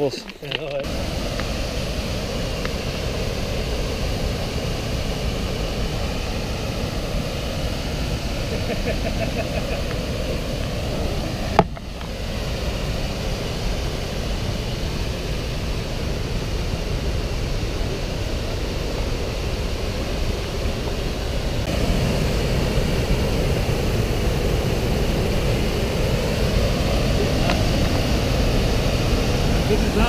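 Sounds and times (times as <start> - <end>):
waterfall rushing: 0.8 - 30.0.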